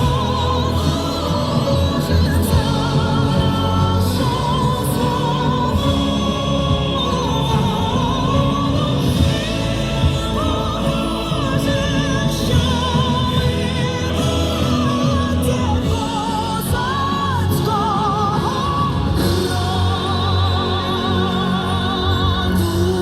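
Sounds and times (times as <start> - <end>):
song on radio loudspeakers: 0.0 - 23.0.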